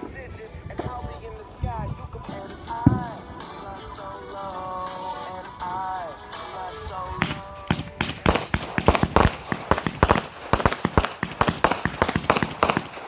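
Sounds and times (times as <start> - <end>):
firecrackers banging: 2.2 - 13.0.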